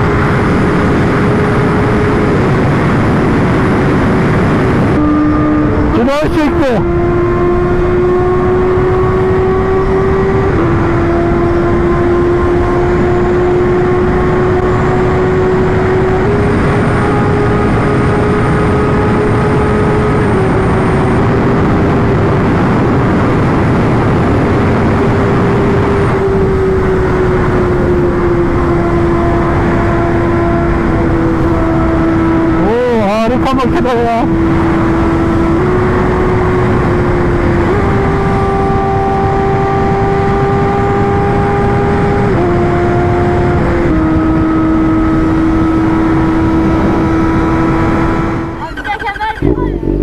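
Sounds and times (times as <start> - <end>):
motorcycle engine at high revs: 0.0 - 50.0.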